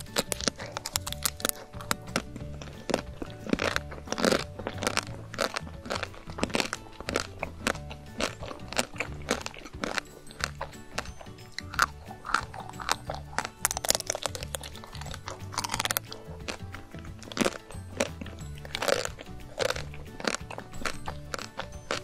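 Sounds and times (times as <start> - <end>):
background music: 0.0 - 22.0
chocolate shell crunching: 0.0 - 22.0.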